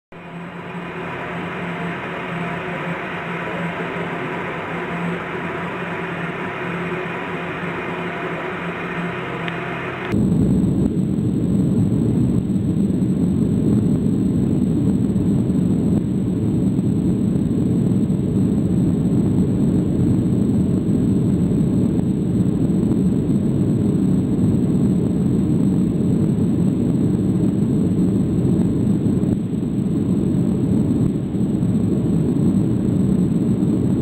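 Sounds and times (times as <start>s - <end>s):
airplane cabin engine rumble: 0.1s - 34.0s.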